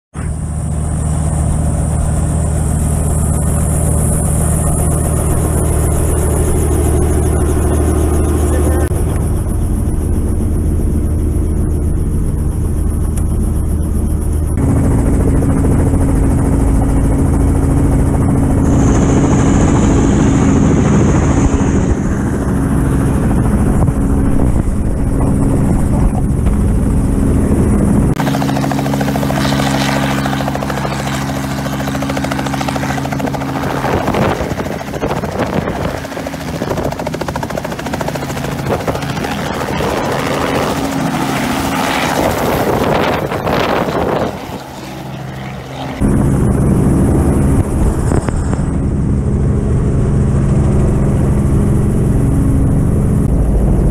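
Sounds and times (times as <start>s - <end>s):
helicopter engine and rotor drone: 0.1s - 53.9s.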